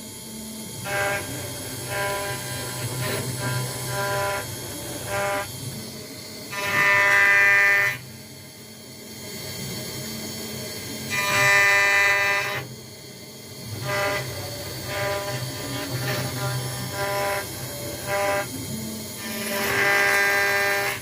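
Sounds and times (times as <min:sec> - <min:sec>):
machine low hum: 0:00.0 - 0:21.0.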